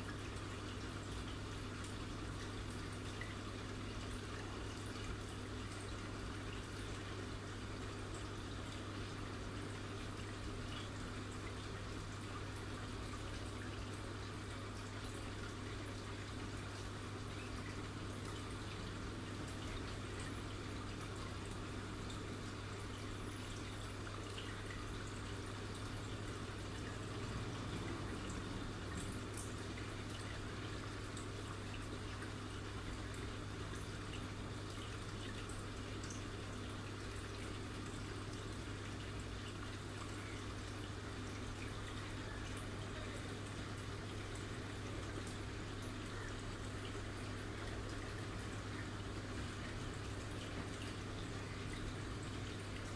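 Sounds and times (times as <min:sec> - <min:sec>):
aquarium pump humming: 0:00.0 - 0:52.9
trickling dripping water: 0:00.0 - 0:52.9.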